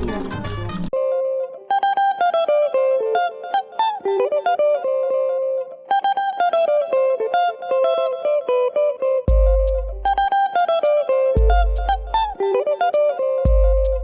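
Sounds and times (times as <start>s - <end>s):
plucked guitar melody: 0.0s - 14.0s.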